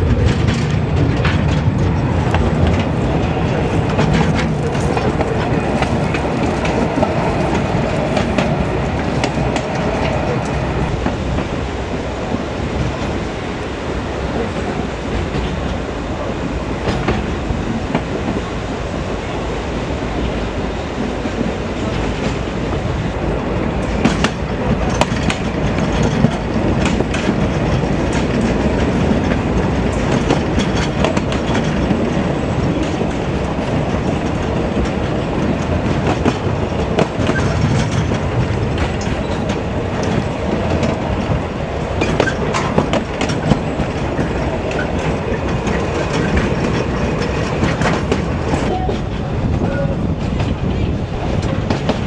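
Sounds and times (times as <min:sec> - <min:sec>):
wheel clacks over rail joints: 0:00.0 - 0:11.6, 0:16.5 - 0:18.6, 0:23.8 - 0:52.0
train wheels rumbling on rails: 0:00.0 - 0:52.0.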